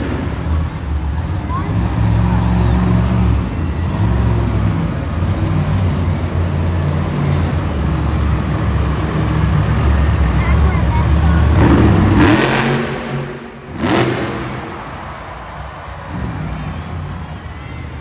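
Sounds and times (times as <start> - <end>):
monster truck engine running: 0.0 - 18.0.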